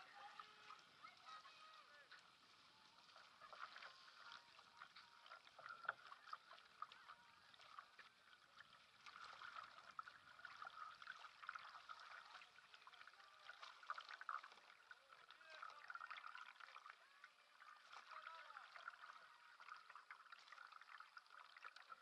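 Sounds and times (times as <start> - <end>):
paddle splashing in water: 0.0 - 22.0
water running along hull: 0.0 - 22.0.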